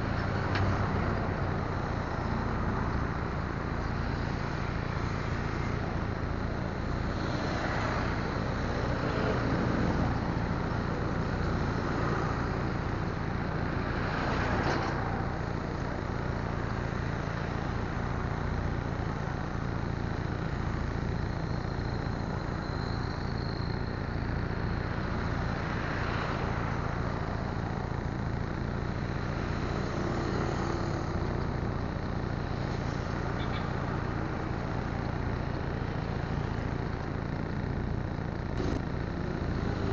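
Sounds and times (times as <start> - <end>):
idling engines and traffic rumble: 0.0 - 39.9
vehicles passing: 0.0 - 39.9.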